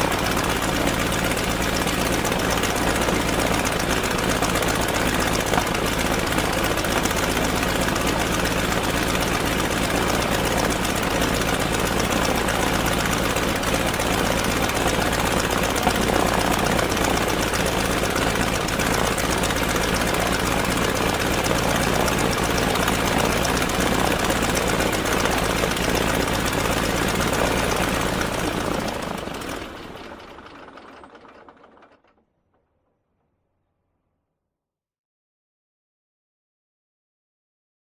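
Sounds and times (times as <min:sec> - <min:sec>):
propeller plane engine idling: 0:00.0 - 0:32.2.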